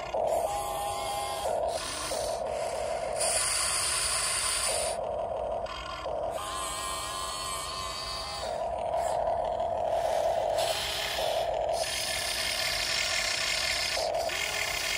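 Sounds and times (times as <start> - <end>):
electric motors whining: 0.0 - 14.9.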